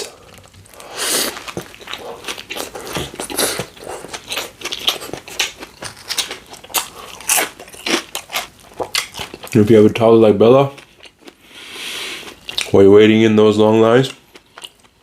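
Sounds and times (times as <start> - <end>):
sandwich crunching and chewing: 0.0 - 9.8, 10.6 - 11.4, 12.2 - 12.8, 14.0 - 15.0.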